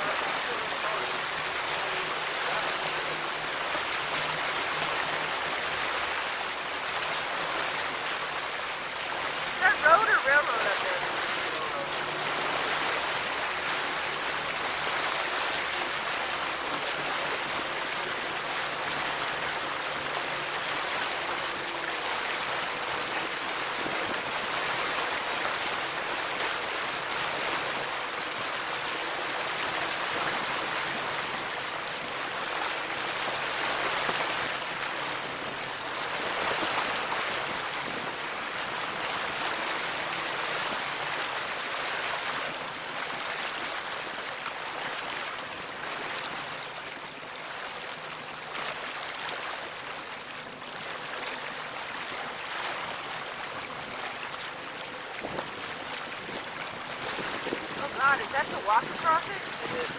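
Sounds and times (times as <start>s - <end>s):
faint boat engine drone: 0.0s - 59.9s
water splashing along boat hull: 0.0s - 59.9s.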